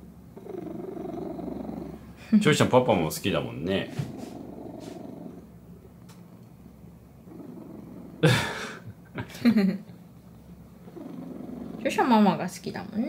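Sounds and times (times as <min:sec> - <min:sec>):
cat purring: 0:00.0 - 0:09.1, 0:10.0 - 0:13.0.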